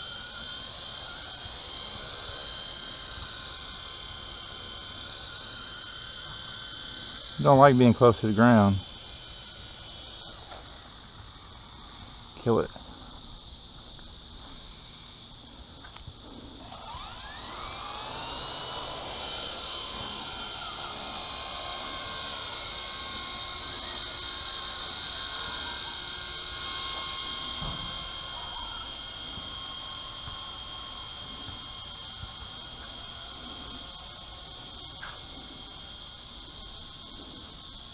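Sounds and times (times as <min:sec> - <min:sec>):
toy helicopter motor whine: 0:00.0 - 0:37.9.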